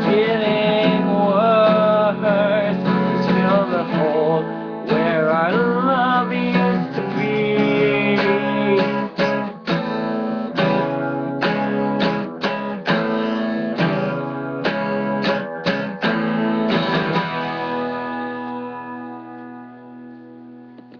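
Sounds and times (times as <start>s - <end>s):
guitar strumming chords: 0.0s - 20.9s.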